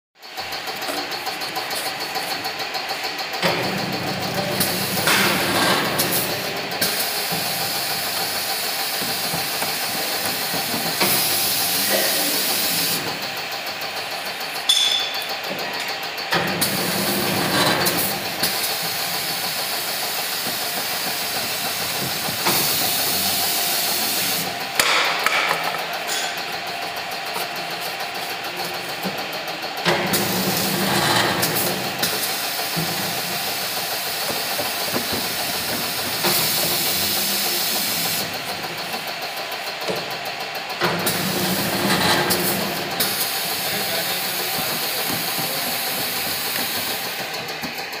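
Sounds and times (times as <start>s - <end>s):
machine motor running: 0.2s - 48.0s
loud machine hiss: 0.6s - 28.7s, 29.6s - 48.0s.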